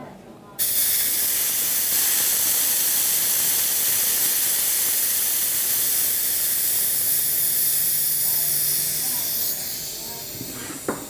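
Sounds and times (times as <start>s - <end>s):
high-pressure air hissing: 0.6s - 11.0s.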